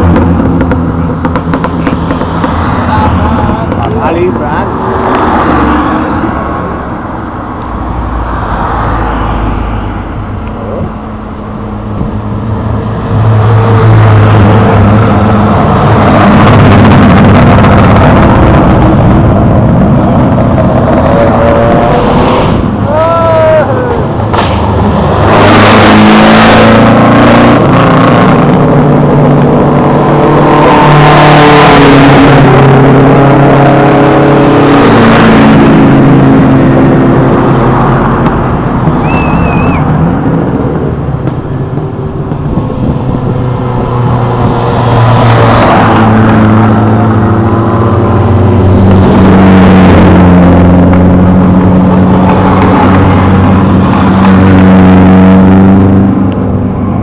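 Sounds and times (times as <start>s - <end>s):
racing car engine at full throttle: 0.0s - 57.0s.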